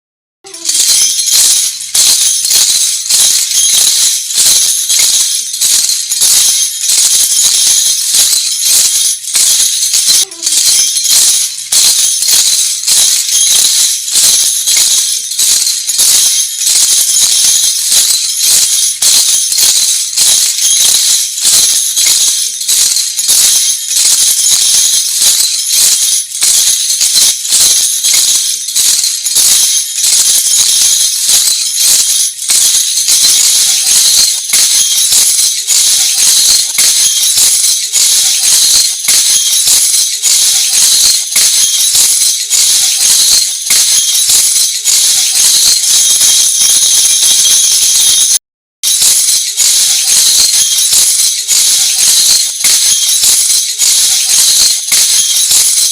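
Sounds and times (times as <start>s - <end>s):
metallic jingling instrument: 0.5s - 55.9s.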